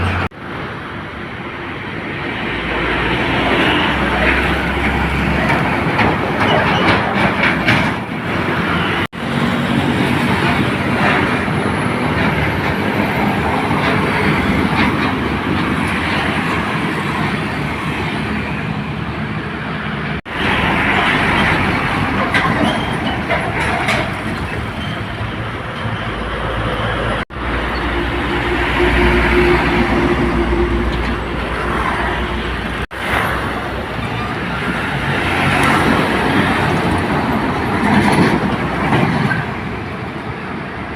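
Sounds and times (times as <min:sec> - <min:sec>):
road traffic driving past: 0:00.0 - 0:40.9.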